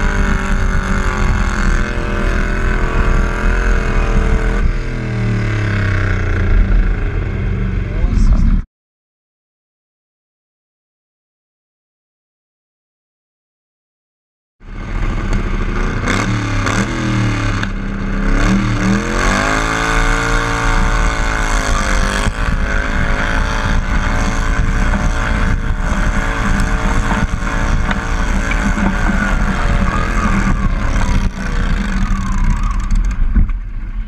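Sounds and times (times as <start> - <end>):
tractor engine at full throttle: 0.0 - 8.4, 14.7 - 34.0.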